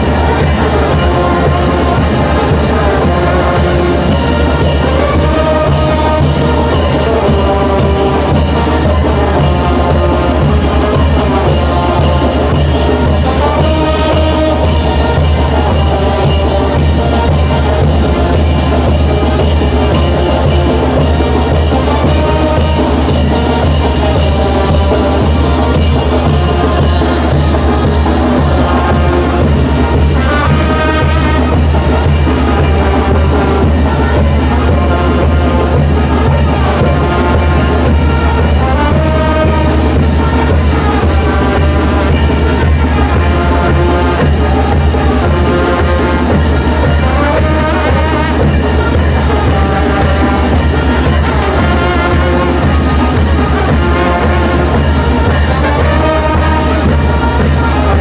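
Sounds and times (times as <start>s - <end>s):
brass band melody: 0.0s - 58.0s.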